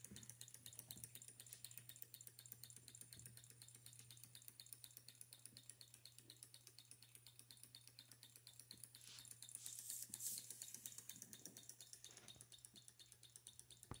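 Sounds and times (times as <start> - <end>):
small engine clicking: 0.0 - 14.0.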